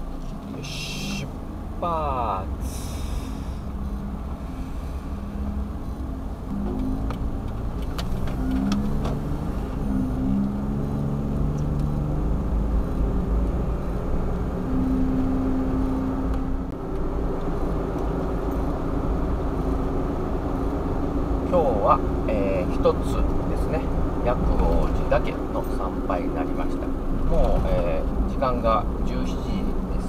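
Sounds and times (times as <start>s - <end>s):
road noise: 0.0s - 30.0s
small van engine accelerating: 0.0s - 30.0s.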